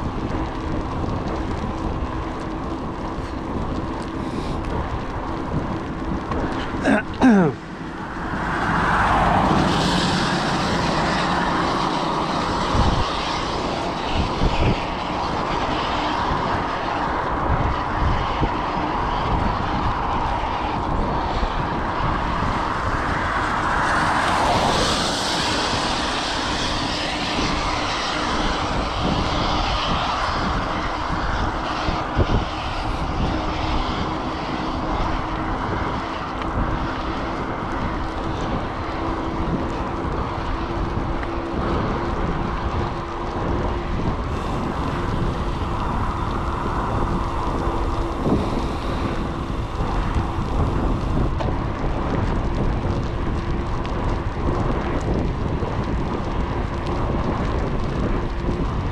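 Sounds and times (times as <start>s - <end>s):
engine-like drone: 0.0s - 58.9s
rushing wind noise: 0.0s - 58.9s.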